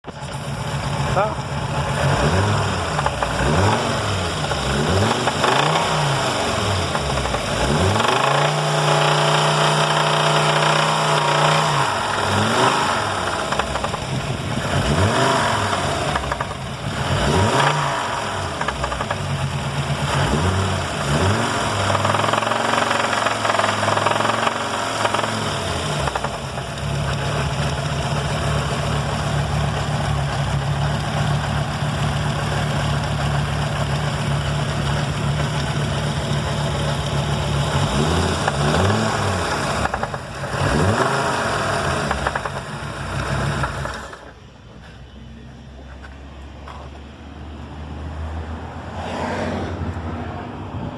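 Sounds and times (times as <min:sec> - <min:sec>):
car engine revving: 0:00.0 - 0:44.4
car engine idling: 0:00.0 - 0:47.8.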